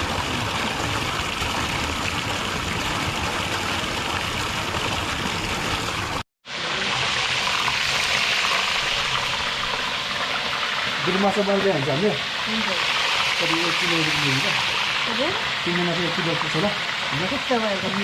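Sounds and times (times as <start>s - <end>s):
flowing water hiss: 0.0s - 18.0s.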